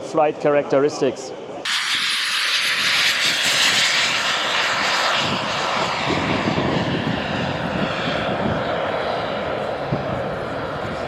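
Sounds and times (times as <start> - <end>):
model jet rushing: 1.6 - 11.0
low rumble: 1.7 - 10.8.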